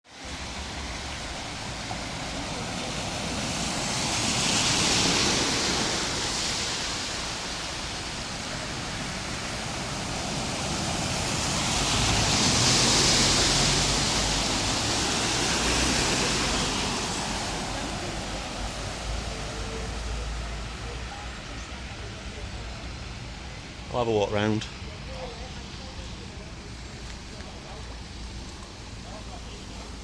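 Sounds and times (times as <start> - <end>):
floodwater rushing and splashing: 0.0 - 30.0.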